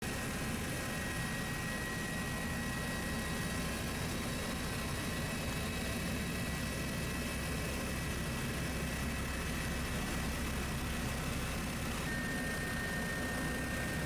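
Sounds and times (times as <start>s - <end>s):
helicopter rumble: 0.0s - 14.0s.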